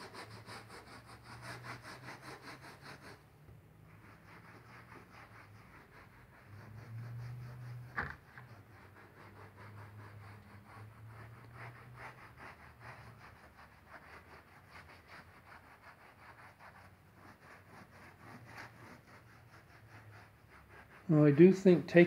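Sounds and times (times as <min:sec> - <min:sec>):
sponge scrubbing on glass: 0:00.0 - 0:22.0.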